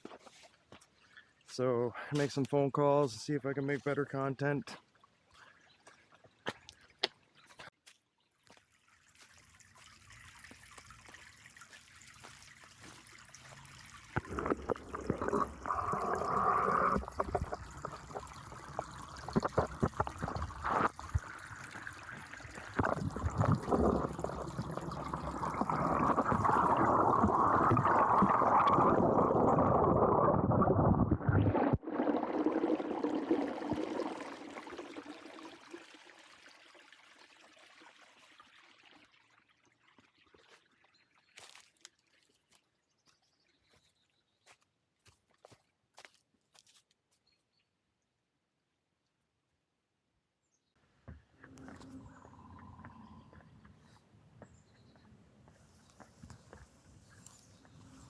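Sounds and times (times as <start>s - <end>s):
water trickling and gurgling: 0.1s - 1.7s, 3.7s - 44.4s, 51.4s - 58.0s.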